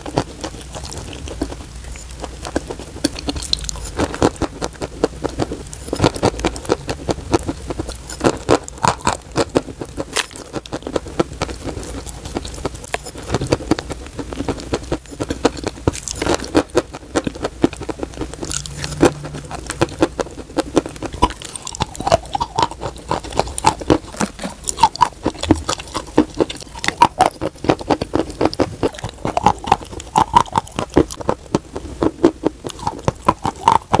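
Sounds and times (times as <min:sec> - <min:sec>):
chewing and crunching clay: 0:00.0 - 0:34.0
wet mouth sounds: 0:00.0 - 0:34.0.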